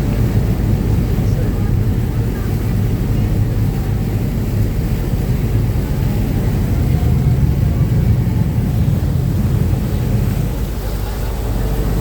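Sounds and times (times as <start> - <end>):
boat engines droning: 0.0 - 12.0
water rushing: 0.0 - 12.0
wind: 0.0 - 12.0.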